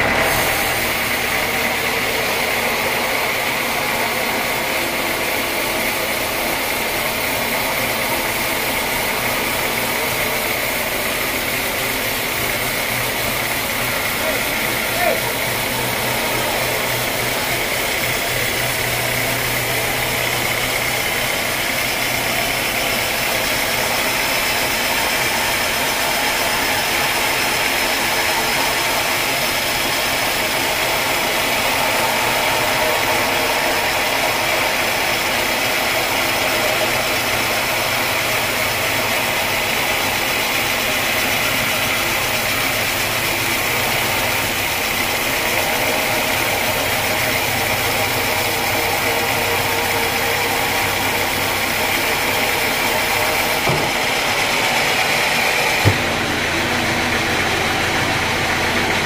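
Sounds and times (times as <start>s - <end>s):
sawmill blade sawing log: 0.0s - 59.0s.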